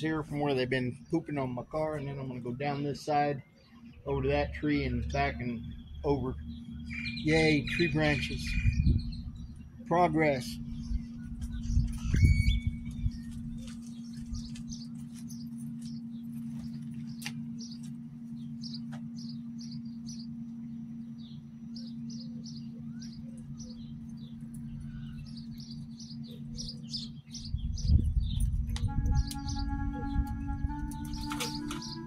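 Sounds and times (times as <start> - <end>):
small birds chirping: 0.0 - 32.0
steady low hum: 0.0 - 32.0.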